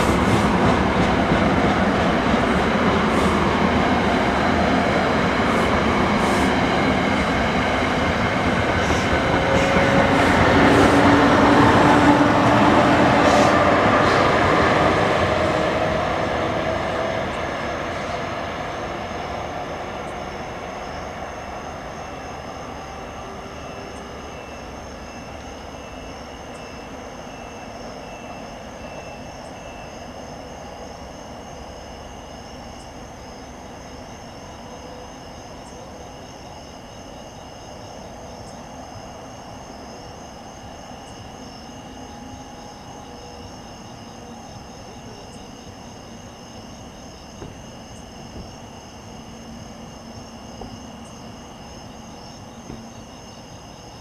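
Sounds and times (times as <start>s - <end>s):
crickets chirping: 0.0s - 54.0s
train rumble departing: 0.0s - 54.0s.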